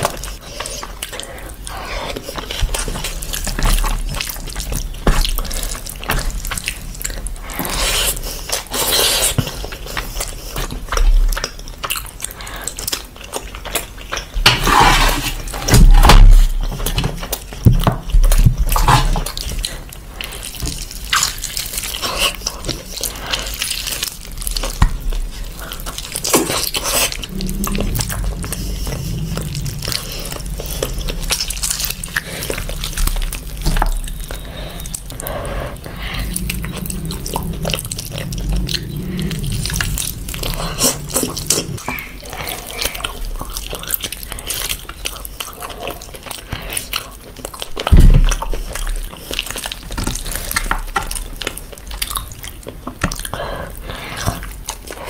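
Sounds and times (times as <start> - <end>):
man chewing meat: 0.0 - 55.0.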